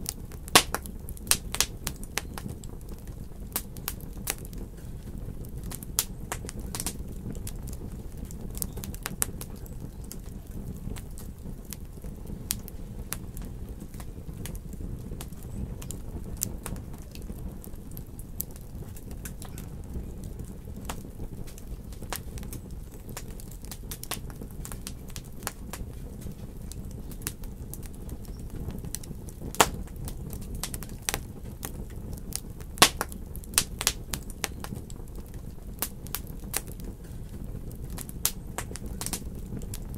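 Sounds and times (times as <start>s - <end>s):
fire pops: 0.0s - 39.9s
wood fire crackling: 0.0s - 39.9s.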